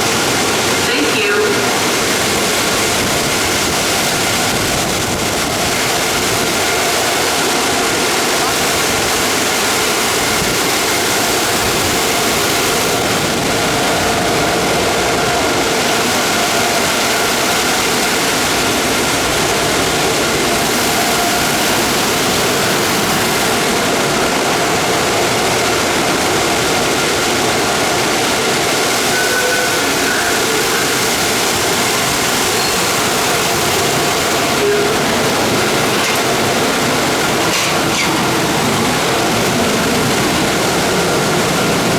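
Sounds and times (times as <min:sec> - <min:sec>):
car wash air dryers roaring: 0:00.0 - 0:41.9.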